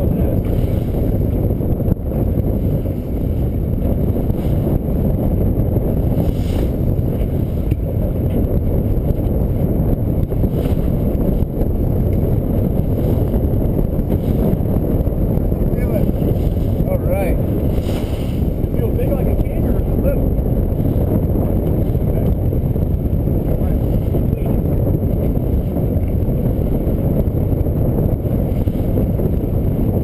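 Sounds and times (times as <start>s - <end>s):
boat motor: 0.0s - 30.0s
water splashing against hull: 0.0s - 30.0s
wind buffeting microphone: 0.0s - 30.0s.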